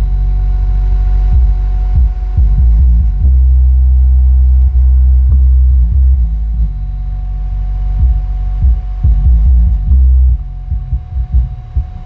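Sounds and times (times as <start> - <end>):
deep bass from subwoofer: 0.0 - 12.0.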